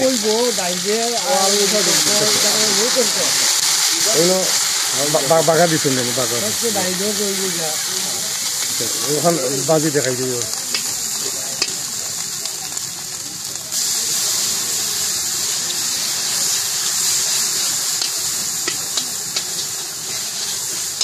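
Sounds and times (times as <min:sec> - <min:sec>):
oil sizzling while deep-frying: 0:00.0 - 0:21.0.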